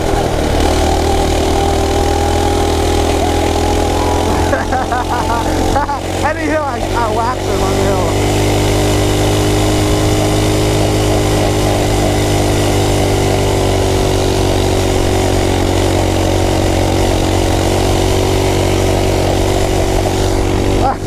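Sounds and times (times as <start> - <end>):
small engine running hard: 0.0 - 21.0
wind and road noise: 0.0 - 21.0.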